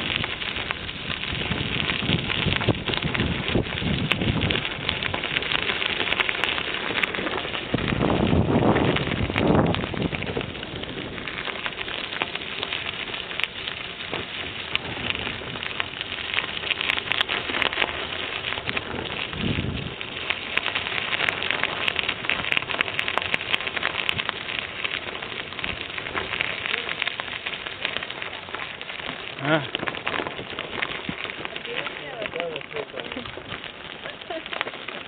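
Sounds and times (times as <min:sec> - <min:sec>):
bicycle tyres crunching on trail: 0:00.0 - 0:35.0.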